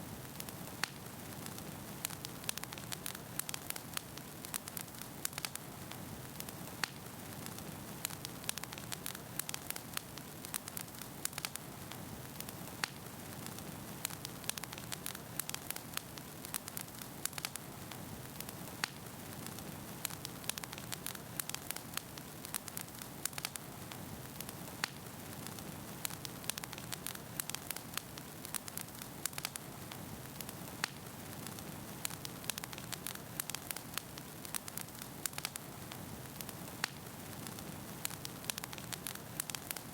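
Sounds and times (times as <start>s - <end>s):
wood fire burning: 0.0s - 39.9s
logs crackling and popping: 0.1s - 39.9s.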